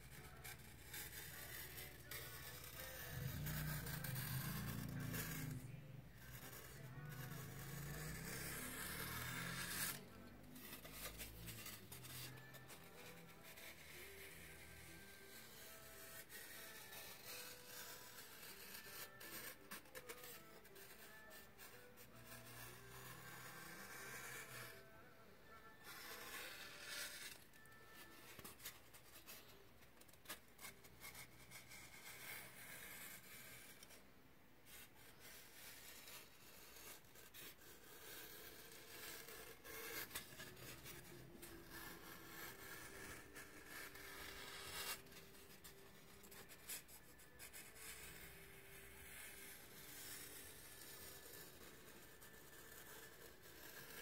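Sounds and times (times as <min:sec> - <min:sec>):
knife blade scraping foam: 0:00.0 - 0:34.0, 0:34.7 - 0:54.0.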